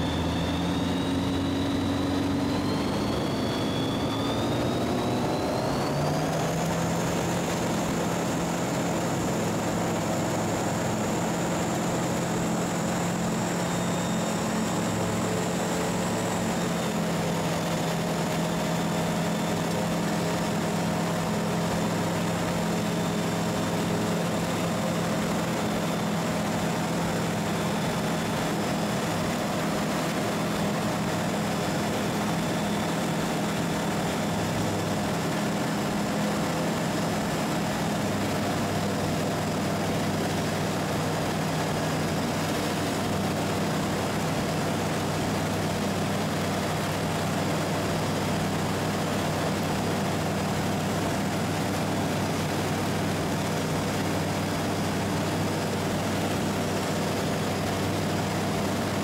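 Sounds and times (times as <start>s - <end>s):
propeller aircraft engine droning: 0.0s - 59.0s.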